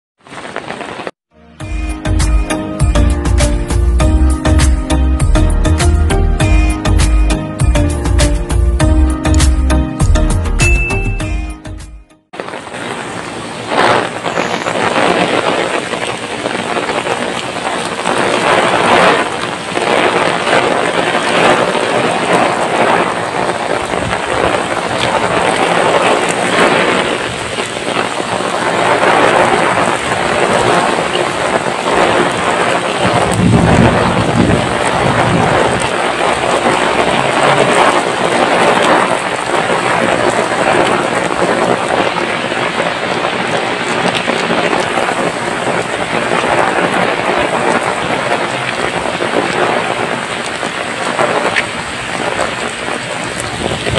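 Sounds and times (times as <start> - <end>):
heavy rain on a paved road: 0.2 - 10.8, 12.3 - 53.9.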